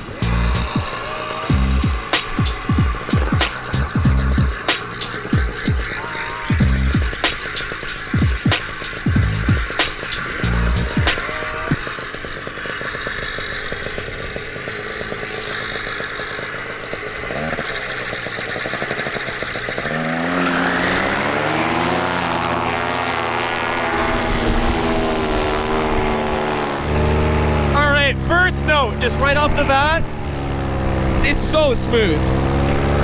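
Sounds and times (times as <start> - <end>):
paramotor engine revving: 0.0 - 33.0.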